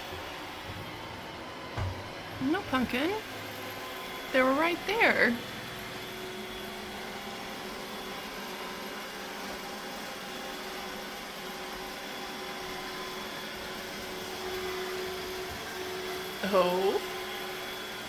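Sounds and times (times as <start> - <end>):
robot vacuum humming and whining: 0.0 - 18.0.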